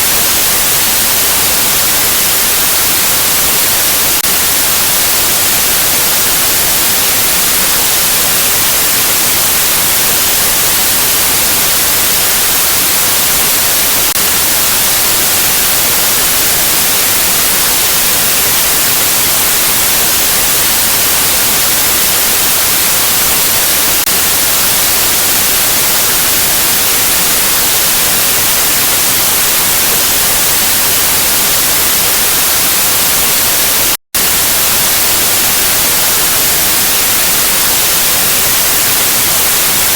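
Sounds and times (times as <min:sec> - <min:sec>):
white-noise static: 0:00.0 - 0:39.9.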